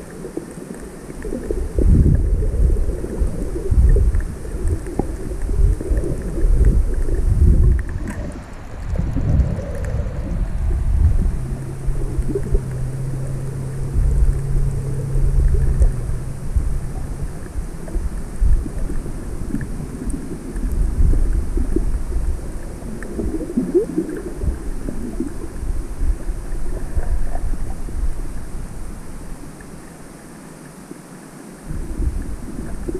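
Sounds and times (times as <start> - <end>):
steady low hum: 0.0 - 30.1
underwater water rumble: 0.0 - 32.9.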